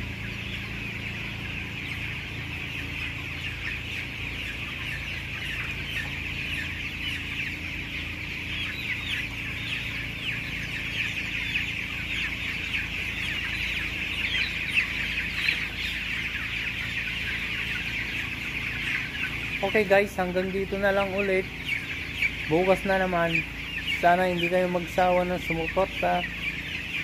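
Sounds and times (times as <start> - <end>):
chicks peeping in chorus: 0.0 - 27.0.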